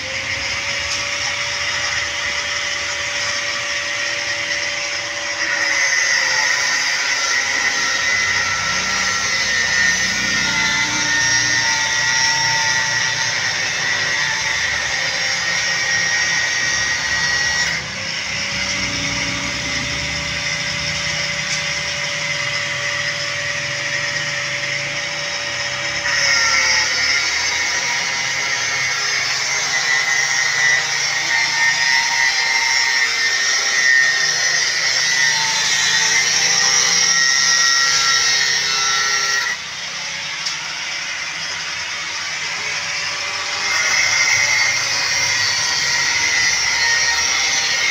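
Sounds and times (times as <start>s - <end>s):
angle grinder cutting steel: 0.0s - 47.9s.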